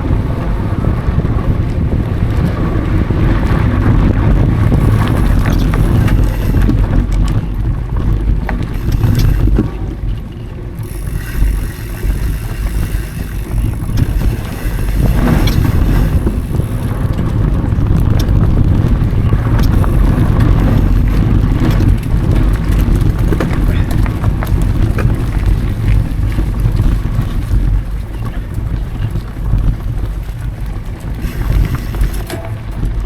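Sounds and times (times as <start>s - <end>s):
bike tyres rolling on dirt: 0.0s - 33.0s
wind over microphone: 0.0s - 33.0s
bike clicks and rattles: 0.1s - 33.0s.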